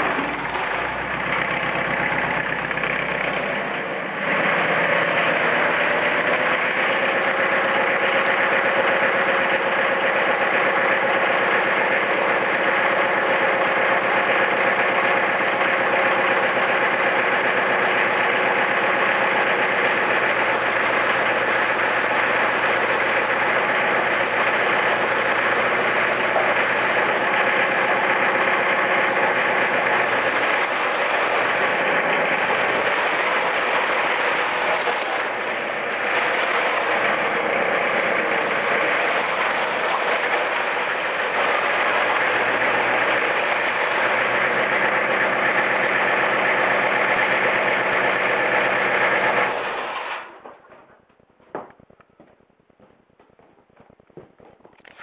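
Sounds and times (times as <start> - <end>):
diesel engine running: 0.0 - 49.7.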